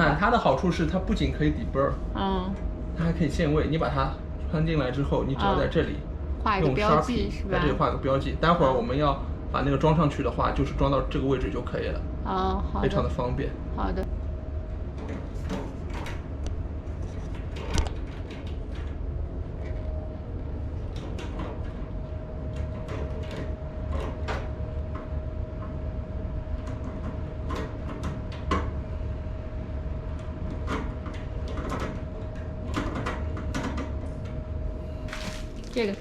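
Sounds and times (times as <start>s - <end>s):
faint steady whine: 0.0s - 36.0s
steady low hum: 0.0s - 36.0s.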